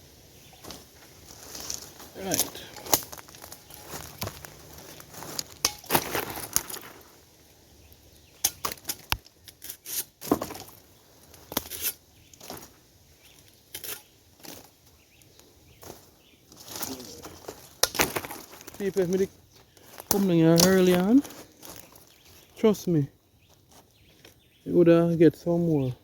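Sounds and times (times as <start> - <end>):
leaves rustling: 0.0 - 26.0.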